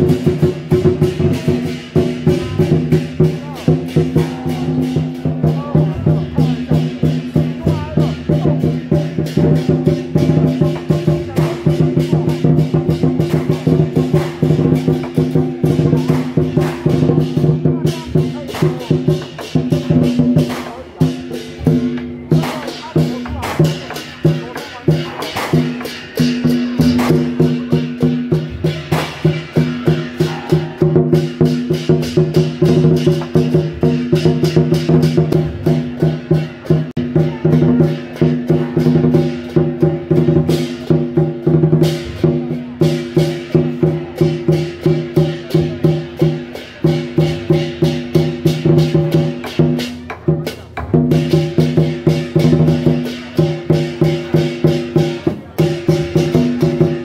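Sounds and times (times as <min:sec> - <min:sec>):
crashing cymbals: 0:00.0 - 0:57.0
drum beaten fast: 0:00.0 - 0:57.0.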